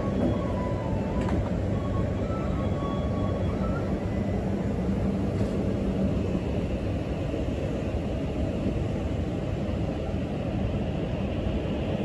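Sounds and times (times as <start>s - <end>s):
faint whining tones: 0.0s - 10.0s
train rumbling: 0.0s - 12.0s.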